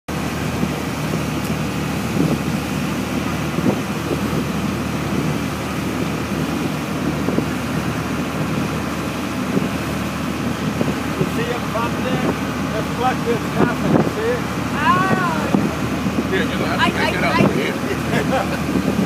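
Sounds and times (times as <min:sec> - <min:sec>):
boat engine running: 0:00.1 - 0:19.0
wind buffeting microphone: 0:00.1 - 0:19.0.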